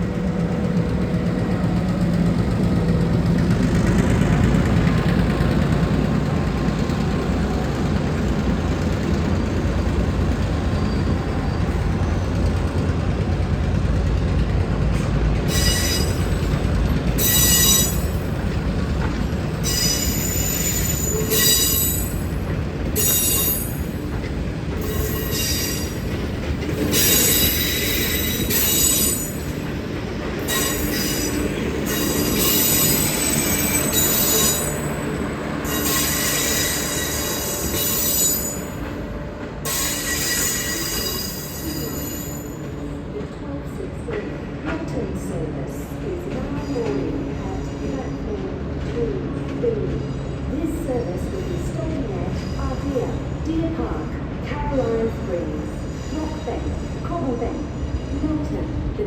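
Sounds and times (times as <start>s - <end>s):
train wheels squealing on rails: 0.0s - 53.5s, 54.8s - 59.0s
diesel locomotive rumble: 0.0s - 59.0s.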